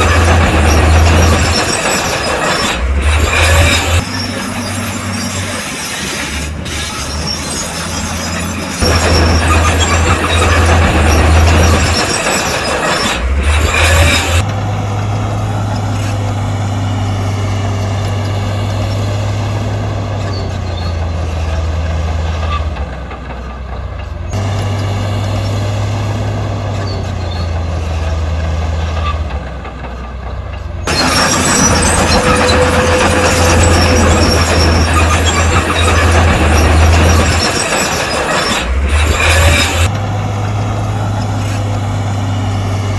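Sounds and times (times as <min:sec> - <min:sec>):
diesel machinery engines droning: 0:00.0 - 0:42.9.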